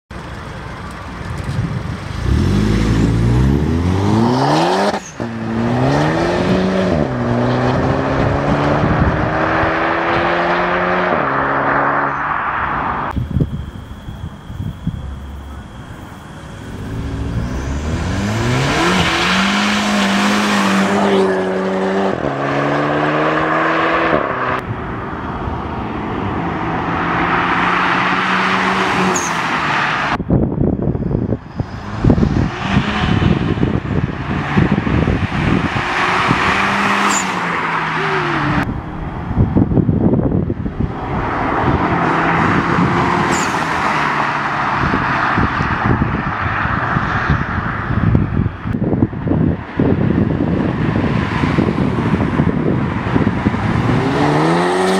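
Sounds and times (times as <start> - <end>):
car engine accelerating: 1.4 - 48.8, 50.0 - 54.9.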